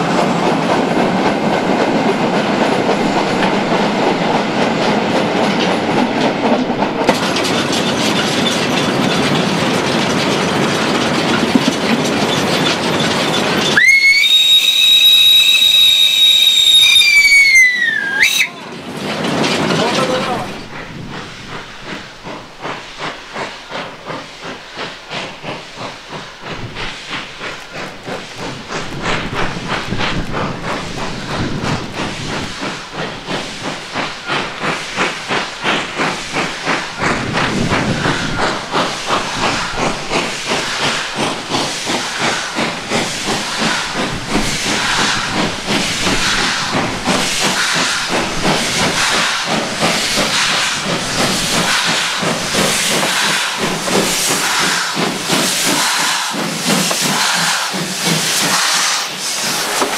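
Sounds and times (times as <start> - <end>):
hissing steam: 0.0 - 59.9
steam locomotive exhaust beat: 0.0 - 59.9.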